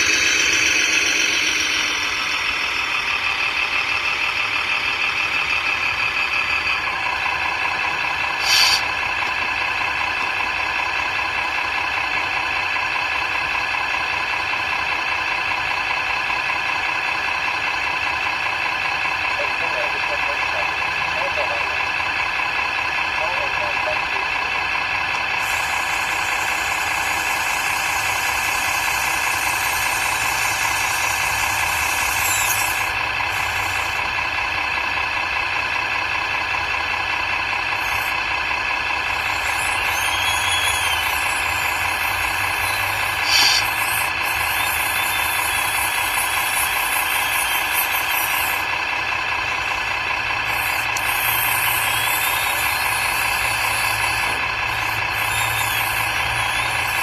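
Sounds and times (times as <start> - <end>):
model vehicle running: 0.0 - 57.0.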